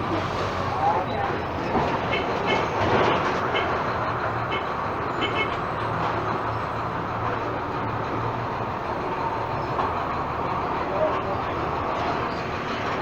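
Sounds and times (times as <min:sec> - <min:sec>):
bus engine humming: 0:00.0 - 0:13.0
road noise: 0:00.0 - 0:13.0.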